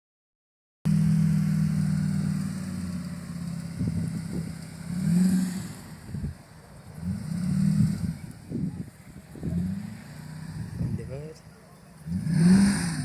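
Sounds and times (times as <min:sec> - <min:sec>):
car engine humming and revving: 0:00.9 - 0:13.0.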